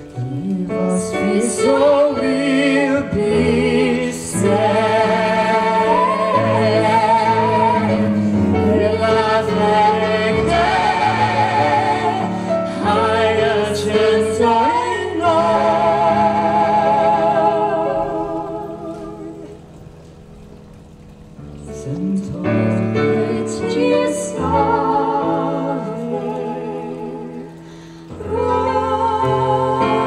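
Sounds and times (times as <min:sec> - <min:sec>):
electric keyboard accompaniment: 0:00.0 - 0:30.0
man and woman singing a duet: 0:00.1 - 0:19.7, 0:21.8 - 0:30.0.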